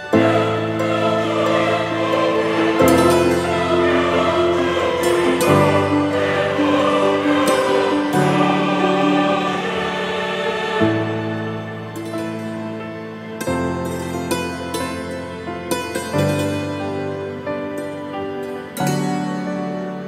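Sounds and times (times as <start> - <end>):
slow music of held chords: 0.0 - 20.0.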